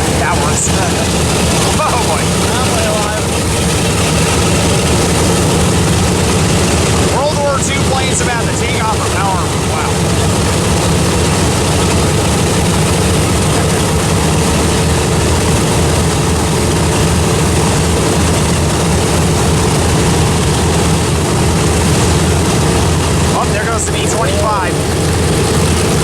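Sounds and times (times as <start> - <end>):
propeller plane engines droning: 0.0 - 26.0.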